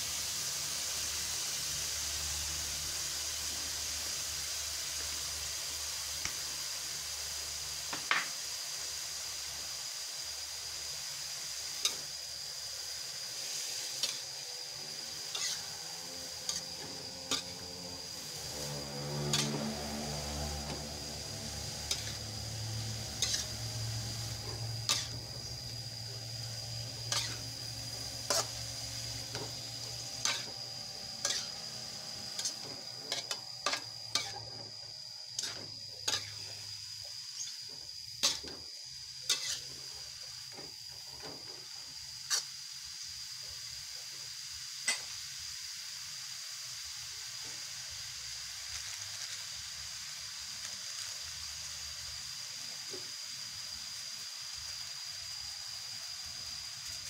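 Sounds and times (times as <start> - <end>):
food sizzling in a wok: 0.0 - 57.0.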